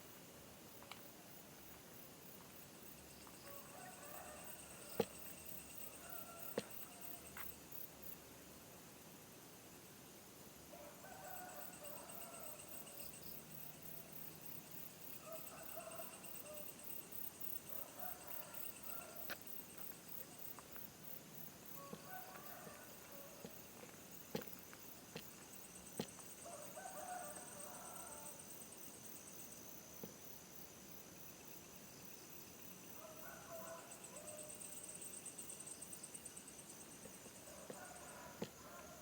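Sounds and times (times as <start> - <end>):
night insects chirring: 0.0 - 39.0.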